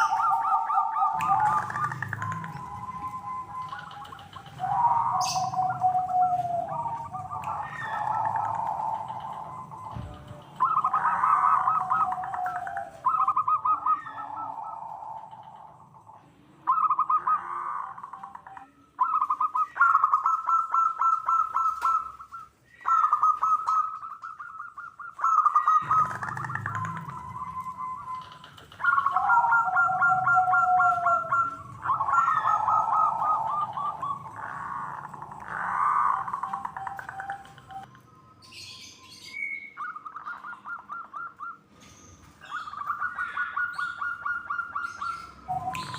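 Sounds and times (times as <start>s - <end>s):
doves cooing in trills: 0.0s - 45.9s.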